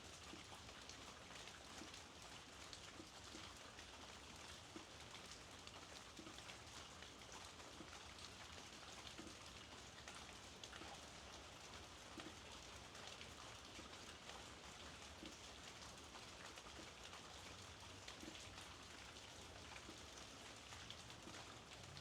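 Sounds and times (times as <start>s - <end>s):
rain falling: 0.1s - 22.0s.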